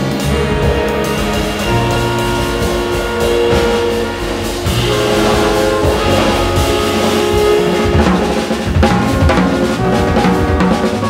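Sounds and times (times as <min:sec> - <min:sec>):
jazz ensemble playing: 0:00.0 - 0:11.0.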